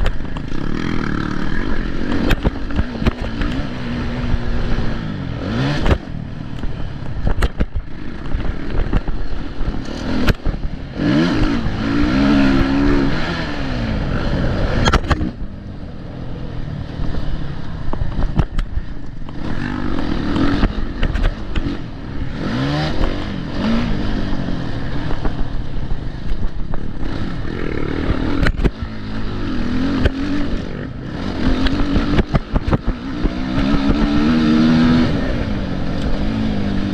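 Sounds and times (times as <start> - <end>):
dirt bike engines racing: 0.0 - 36.9.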